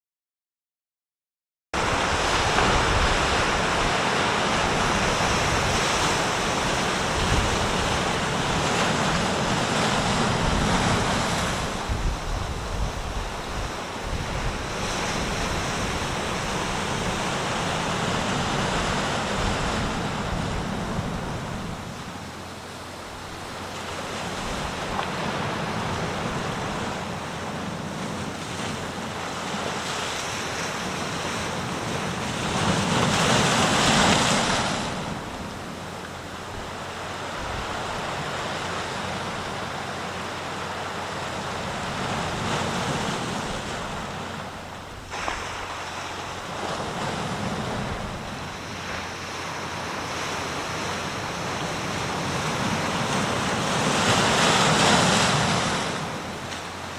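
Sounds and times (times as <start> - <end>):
sea waves breaking on shore: 1.8 - 56.9
wind on microphone: 1.8 - 56.9.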